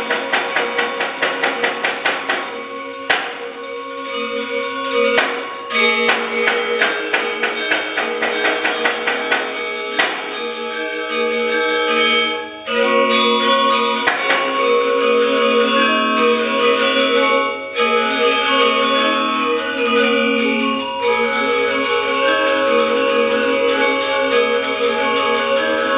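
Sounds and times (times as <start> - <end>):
gamelan metallophones playing: 0.0 - 25.9.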